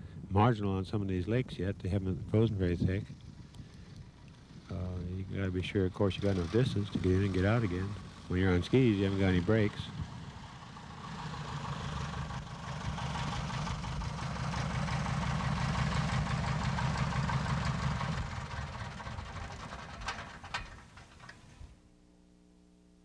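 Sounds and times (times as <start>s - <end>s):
airplane engine drone: 3.3s - 21.8s.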